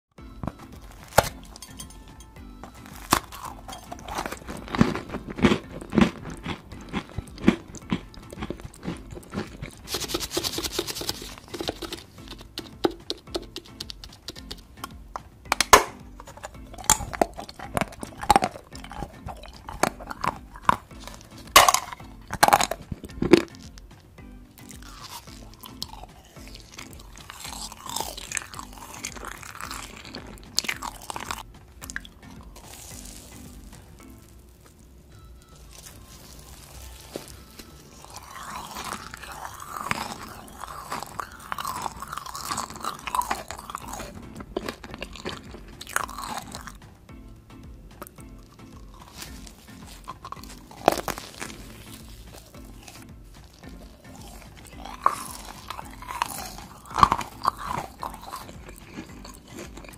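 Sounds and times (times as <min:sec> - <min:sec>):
crisp bites and crunches: 0:00.5 - 0:01.6, 0:02.7 - 0:12.8, 0:15.5 - 0:23.8, 0:24.6 - 0:34.8, 0:35.6 - 0:46.8, 0:48.0 - 0:59.9
chewing: 0:00.5 - 0:23.8, 0:24.6 - 0:34.9, 0:35.5 - 0:46.8, 0:48.0 - 0:59.9.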